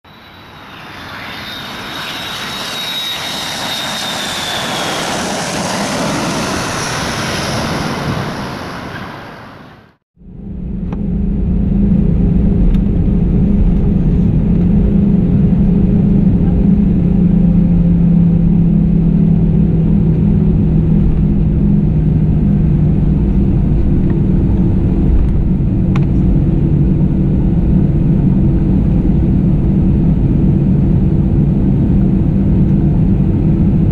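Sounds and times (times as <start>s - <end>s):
high falling whine: 0.1s - 33.9s
jet engine cabin hum: 0.2s - 33.9s.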